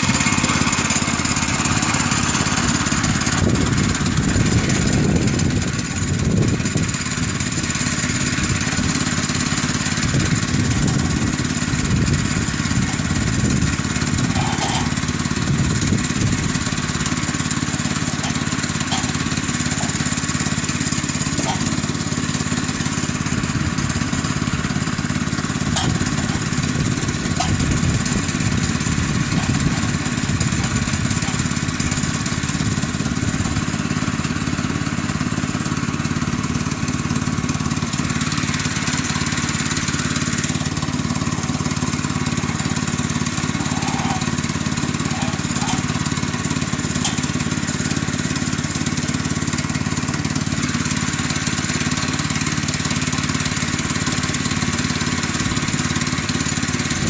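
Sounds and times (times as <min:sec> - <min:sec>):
small gasoline engine idling: 0:00.0 - 0:57.0.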